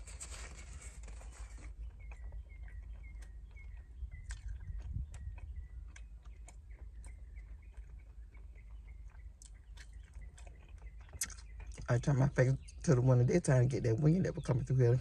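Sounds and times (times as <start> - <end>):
bird chirping: 0.0 - 15.0
low wind rumble: 0.0 - 15.0
chewing with wet mouth clicks: 1.5 - 14.5.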